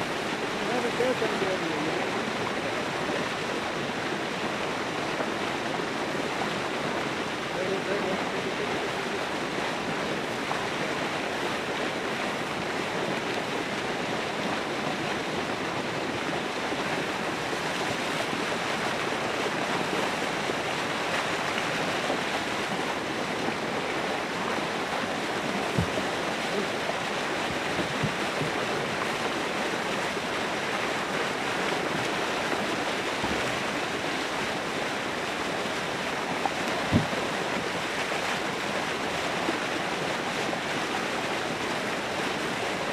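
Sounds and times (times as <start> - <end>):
churning water rushing: 0.0 - 42.9.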